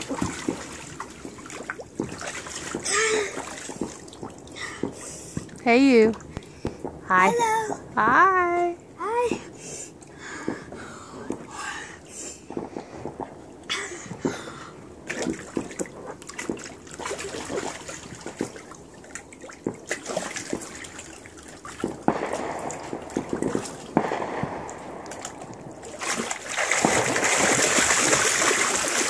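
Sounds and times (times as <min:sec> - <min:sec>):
water splashing in a pool: 0:00.0 - 0:07.7, 0:09.0 - 0:29.0.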